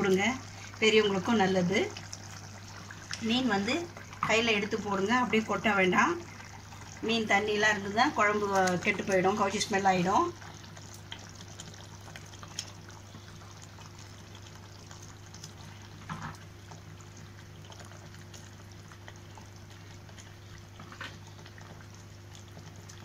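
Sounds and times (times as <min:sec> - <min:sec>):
curry bubbling in pot: 0:00.0 - 0:23.0
low steady hum: 0:00.0 - 0:23.0.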